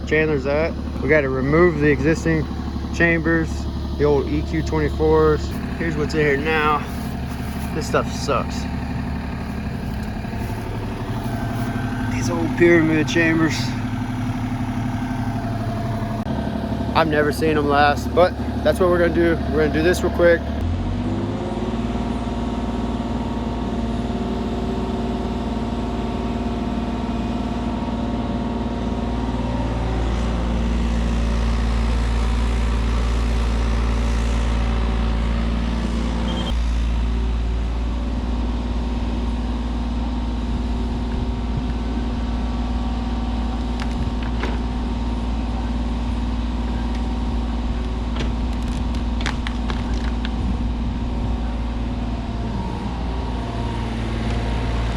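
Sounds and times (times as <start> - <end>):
diesel digger engine running: 0.0 - 54.9.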